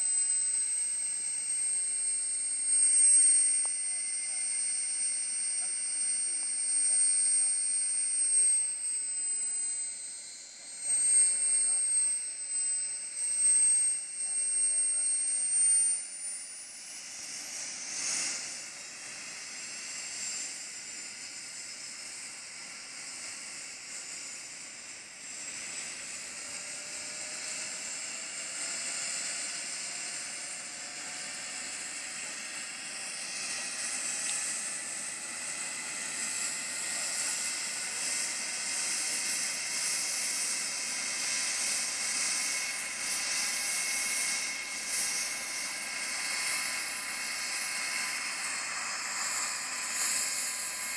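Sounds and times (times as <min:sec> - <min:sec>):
gas turbine whining: 0:00.0 - 0:50.9.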